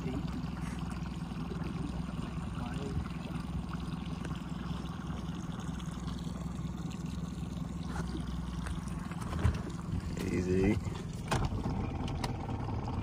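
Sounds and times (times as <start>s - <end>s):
low hum: 0.0s - 13.0s
water lapping around a boat: 0.0s - 13.0s.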